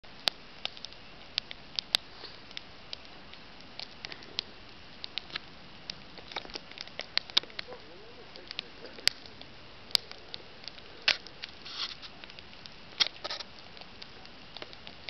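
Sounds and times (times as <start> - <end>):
campfire crackling: 0.0 - 15.0
faint steady hiss: 0.0 - 15.0.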